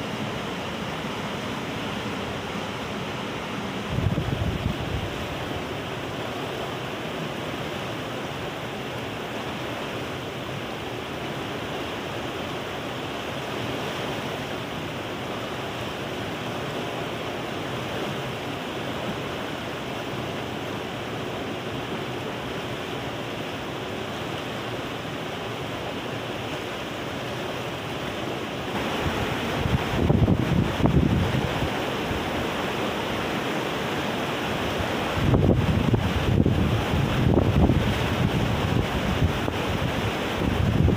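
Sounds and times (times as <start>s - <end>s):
river rushing over rapids: 0.0s - 40.9s.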